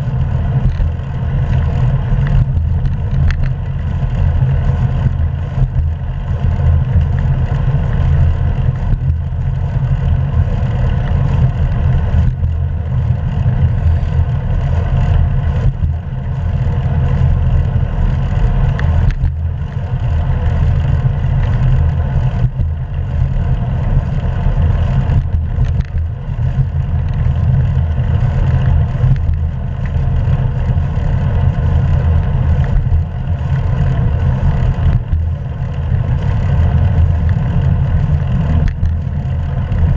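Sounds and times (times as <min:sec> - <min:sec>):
tyre road noise: 0:00.0 - 0:39.9
wind rumble on microphone: 0:00.0 - 0:39.9.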